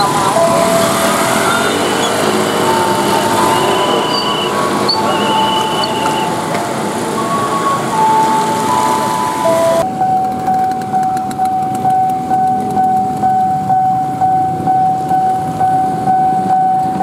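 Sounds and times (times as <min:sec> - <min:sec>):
held tones stepping in pitch: 0:00.0 - 0:17.0
level-crossing warning bell: 0:00.0 - 0:17.0.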